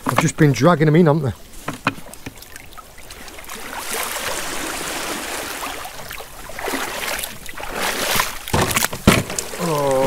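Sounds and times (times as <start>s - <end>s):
rain falling on water: 0.0s - 10.0s
water sloshing around boots: 1.3s - 10.0s.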